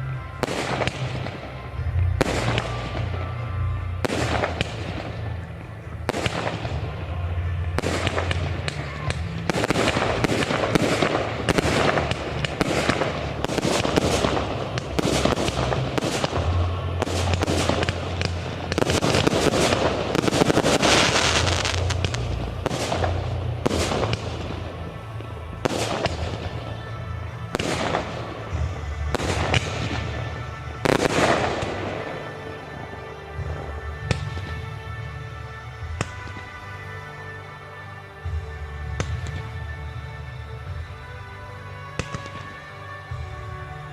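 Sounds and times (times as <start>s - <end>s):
fireworks bursting: 0.0s - 43.9s
fireworks crackling: 0.0s - 43.9s.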